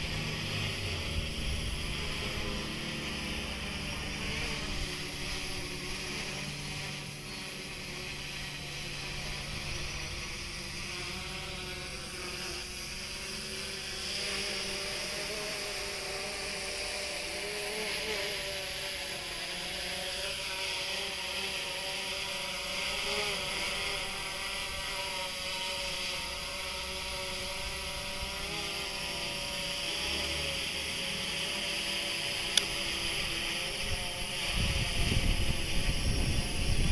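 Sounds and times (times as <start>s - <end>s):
drone propellers buzzing: 0.0s - 36.9s.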